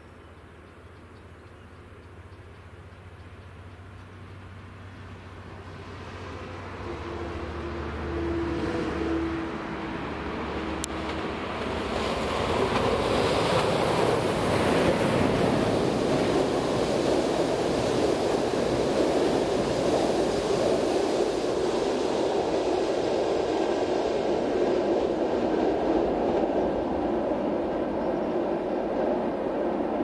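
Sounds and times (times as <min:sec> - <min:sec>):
train wheels rumbling on rails: 0:01.8 - 0:30.0.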